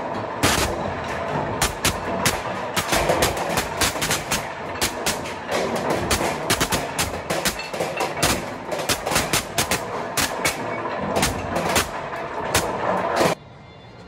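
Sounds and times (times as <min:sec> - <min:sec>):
sharp bangs and clacks on metal: 0:00.0 - 0:13.4
conveyor machinery hum: 0:00.0 - 0:14.0.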